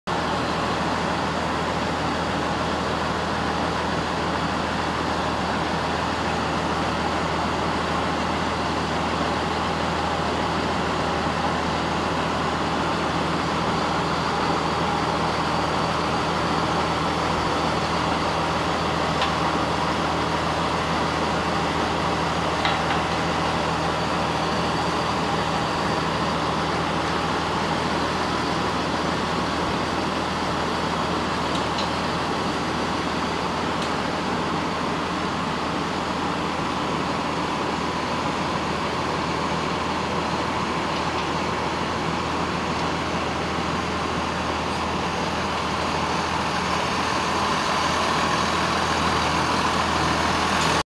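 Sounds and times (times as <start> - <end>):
tractor diesel engine running: 0.1 - 50.8.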